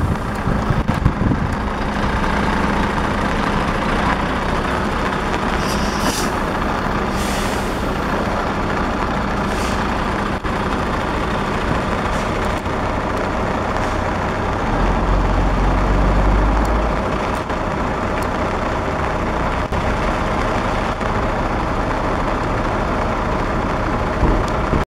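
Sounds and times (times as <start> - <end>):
diesel truck engines running: 0.0 - 24.8.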